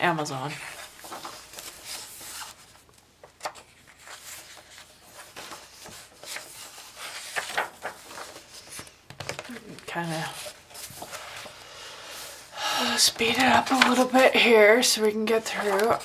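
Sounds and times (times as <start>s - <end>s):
paper pages rustling: 0.5s - 12.4s, 13.1s - 16.0s.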